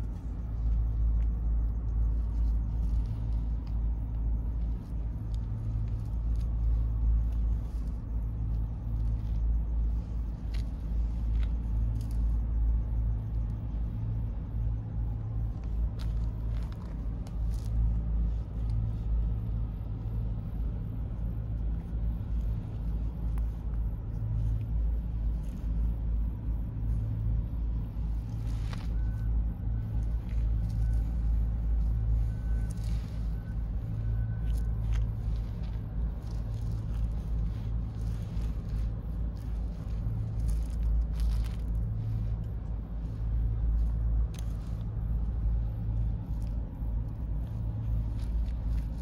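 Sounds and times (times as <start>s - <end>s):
faint scratches: 0.0s - 49.0s.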